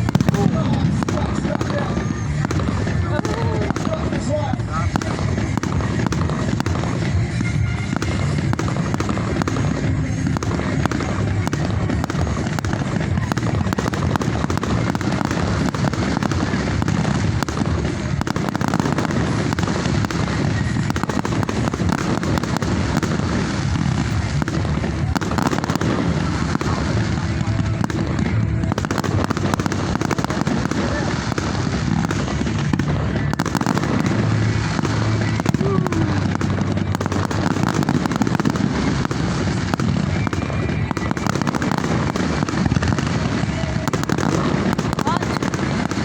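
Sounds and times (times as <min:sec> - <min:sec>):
fireworks crackling and popping: 0:00.0 - 0:46.0
voices: 0:00.0 - 0:46.0.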